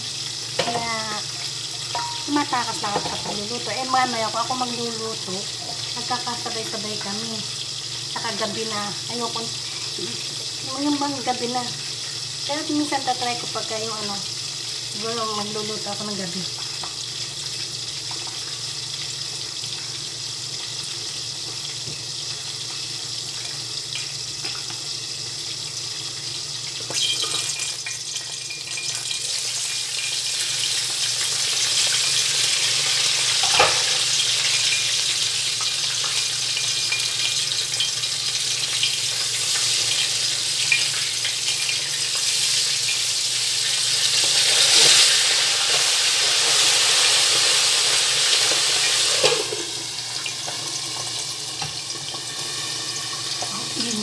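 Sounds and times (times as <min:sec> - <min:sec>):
oil sizzling in a pan: 0:00.0 - 0:54.0.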